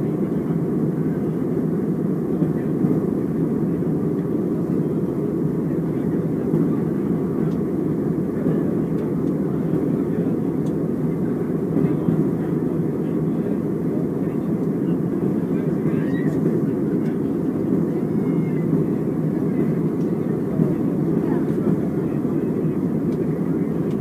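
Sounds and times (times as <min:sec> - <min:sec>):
airliner cabin engine drone: 0:00.0 - 0:24.0.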